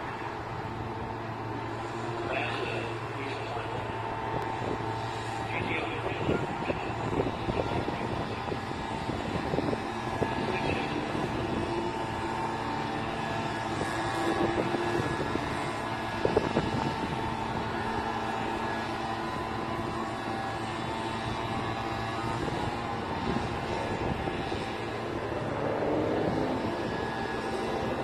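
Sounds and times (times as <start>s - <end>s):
car engines idling: 0.0s - 28.0s.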